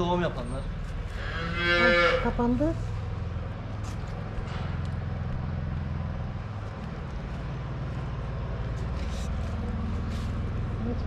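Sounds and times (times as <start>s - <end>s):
engine rumbling steadily: 0.0s - 11.0s.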